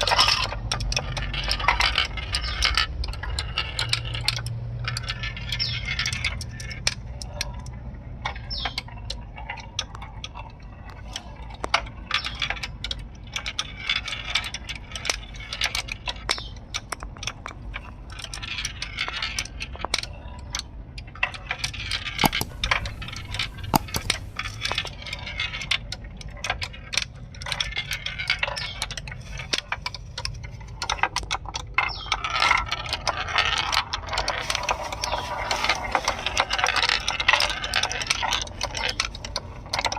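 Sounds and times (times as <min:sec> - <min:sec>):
marbles clicking on track: 0:00.0 - 0:39.9
marbles rolling rattle: 0:00.0 - 0:39.9.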